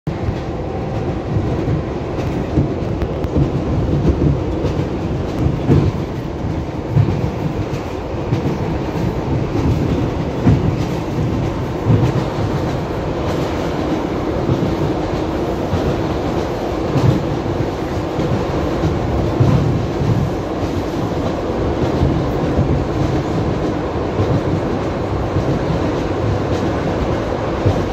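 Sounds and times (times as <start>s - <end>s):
train carriage rumble: 0.1s - 27.9s.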